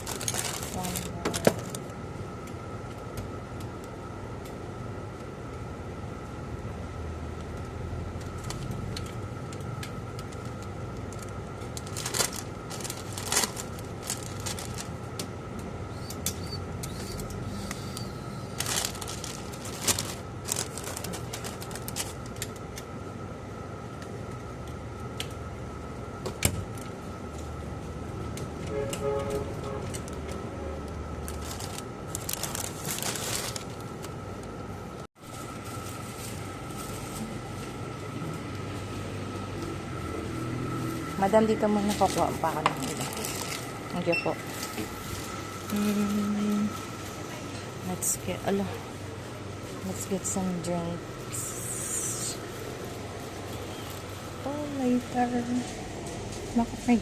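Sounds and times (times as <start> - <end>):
shop hum with high tone: 0.0 - 57.0.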